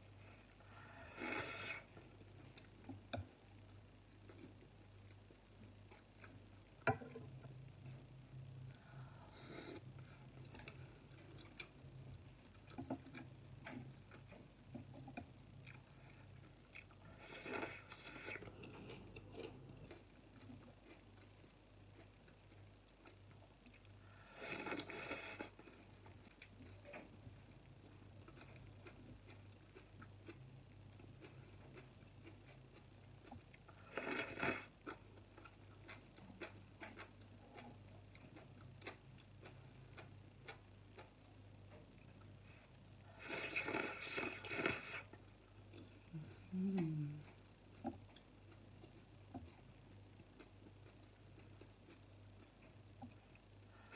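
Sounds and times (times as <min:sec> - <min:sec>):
low steady hum: 0:00.0 - 0:53.9
soft chewing: 0:00.1 - 0:53.9.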